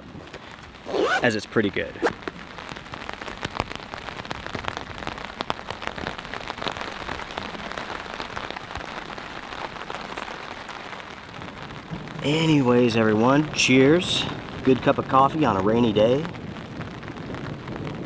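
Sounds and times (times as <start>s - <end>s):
rain falling on a tarp: 0.0s - 18.0s.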